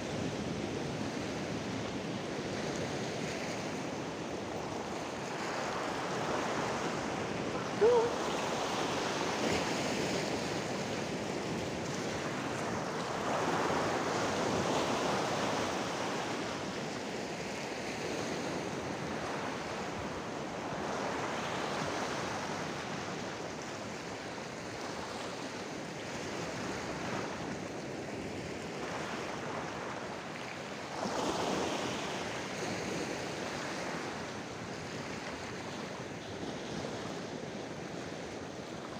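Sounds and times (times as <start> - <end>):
surf on rocky shore: 0.0 - 38.9.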